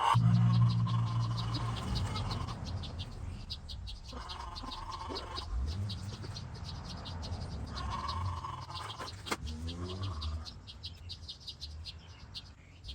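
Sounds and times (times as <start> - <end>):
high rhythmic chirping: 0.0 - 11.9.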